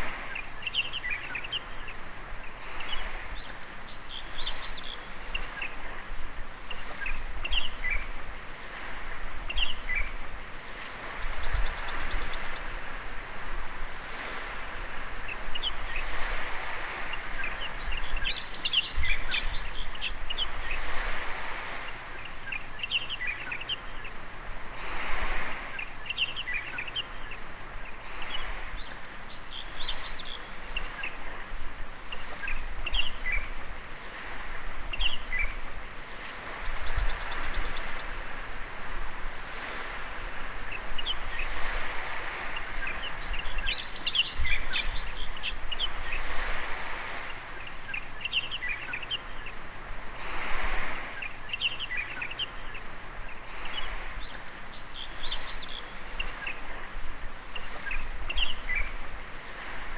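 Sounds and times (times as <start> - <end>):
small birds chirping: 0.0 - 59.9
waves washing on beach: 0.0 - 59.9.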